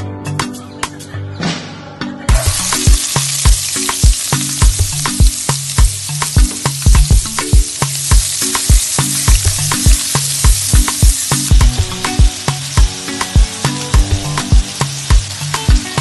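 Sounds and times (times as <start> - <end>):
chicken sizzling in a pan: 2.3 - 16.0.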